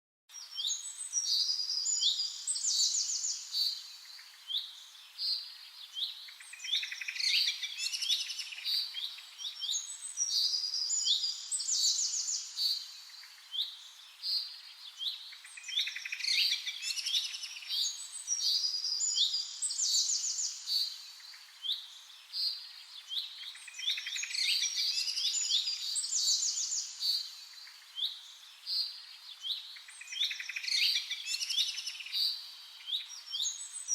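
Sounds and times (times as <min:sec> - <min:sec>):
small birds chirping and trilling: 0:00.3 - 0:33.9.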